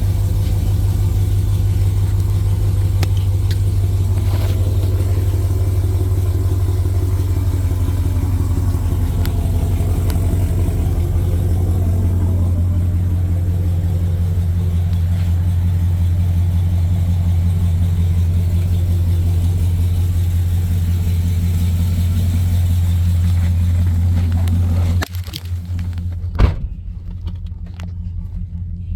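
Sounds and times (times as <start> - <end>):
pickup engine idling: 0.0 - 28.9.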